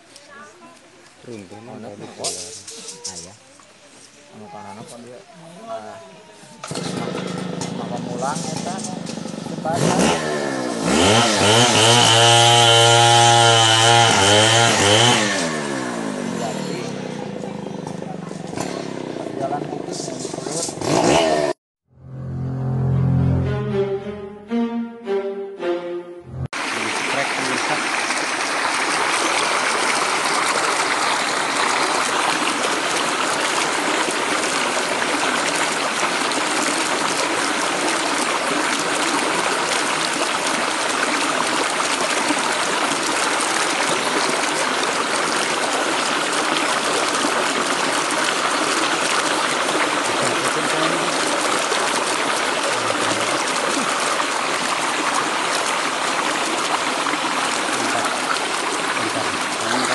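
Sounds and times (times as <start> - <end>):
stream water rushing and splashing: 0.0 - 21.5, 26.5 - 59.9.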